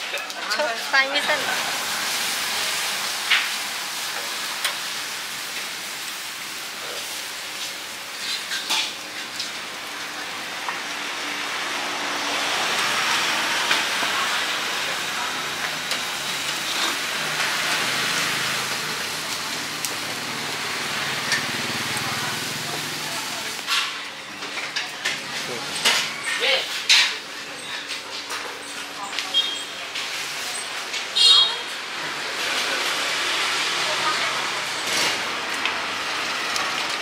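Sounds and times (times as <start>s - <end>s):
meat sizzling on a grill: 0.0s - 37.0s.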